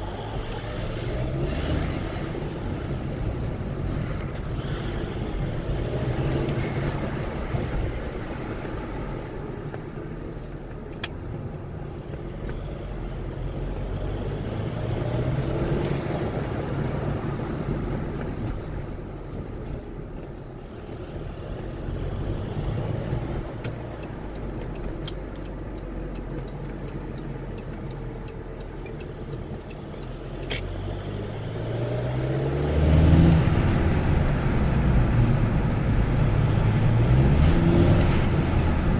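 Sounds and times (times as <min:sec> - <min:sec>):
diesel car engine accelerating: 0:00.0 - 0:38.9
road noise: 0:00.0 - 0:38.9.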